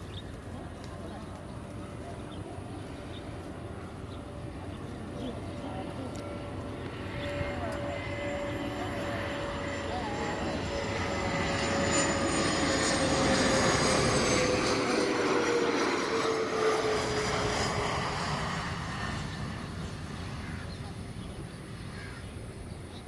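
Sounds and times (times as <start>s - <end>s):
jet engines rumble and whine: 0.0s - 23.0s.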